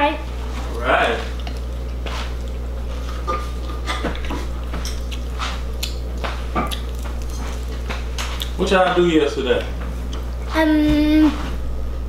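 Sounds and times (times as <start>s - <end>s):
low electrical hum: 0.0s - 12.0s
children chewing food: 0.4s - 11.5s.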